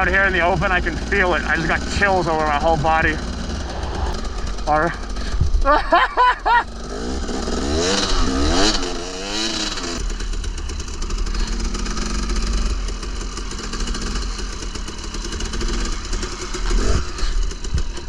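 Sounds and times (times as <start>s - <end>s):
dirt bike engine revving and idling: 0.0s - 18.0s.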